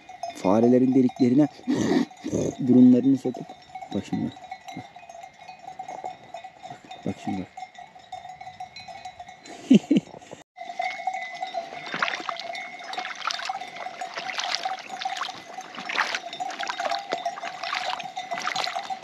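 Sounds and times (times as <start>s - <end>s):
livestock bells clanking: 0.0s - 19.0s.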